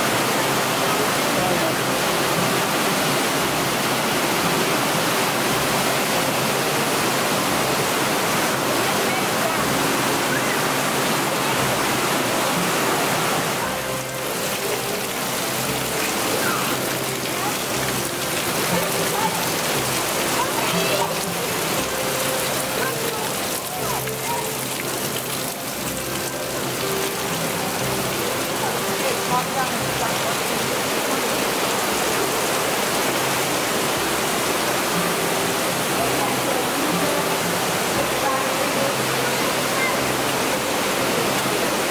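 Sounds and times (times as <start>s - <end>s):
waterfall rushing: 0.0s - 41.9s
faint voices of people: 0.4s - 3.1s, 8.2s - 32.9s, 34.8s - 41.9s.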